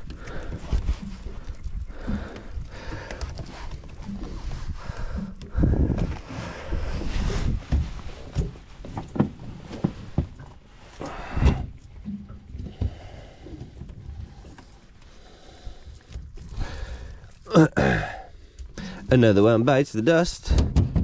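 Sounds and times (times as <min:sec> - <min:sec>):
low rumbling: 0:00.0 - 0:19.0.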